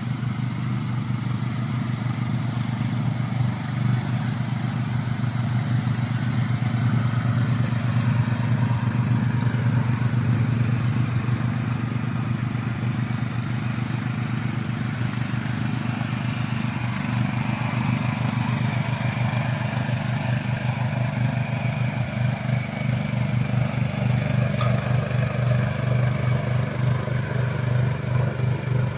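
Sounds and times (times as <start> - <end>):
petrol engine droning: 0.0 - 28.9.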